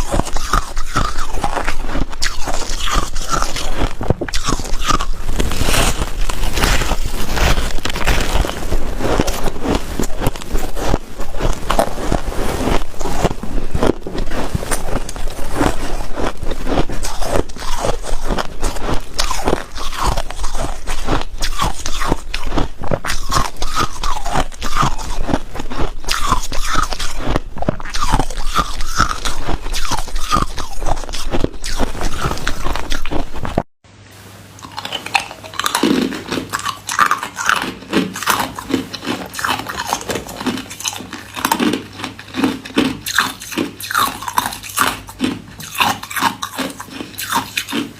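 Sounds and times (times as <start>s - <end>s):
ice cubes crunching: 0.0s - 33.6s, 34.6s - 47.9s.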